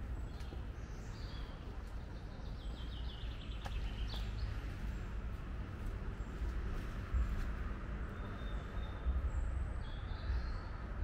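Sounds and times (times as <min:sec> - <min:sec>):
songbird singing: 0:00.0 - 0:11.0
steady low rumble: 0:00.0 - 0:11.0.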